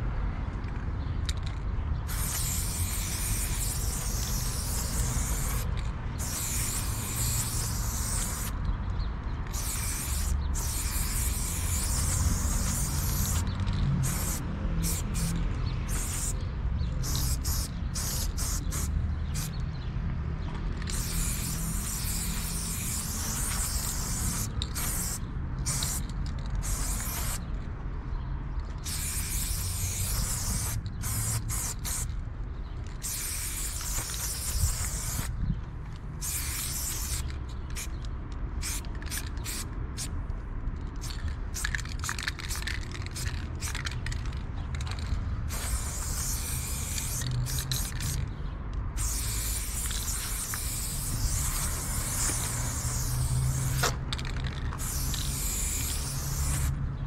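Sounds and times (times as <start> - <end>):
spray paint can hissing: 1.3 - 8.6, 9.4 - 19.7, 20.7 - 27.5, 28.7 - 32.1, 32.8 - 35.3, 36.2 - 40.1, 41.0 - 48.3, 49.0 - 56.8.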